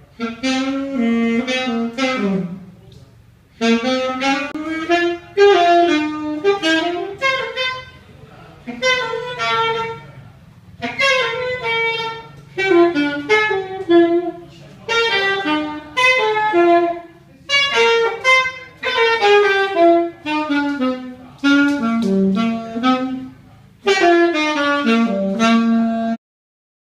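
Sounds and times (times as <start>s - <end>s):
solo saxophone phrases: 0.0s - 26.2s.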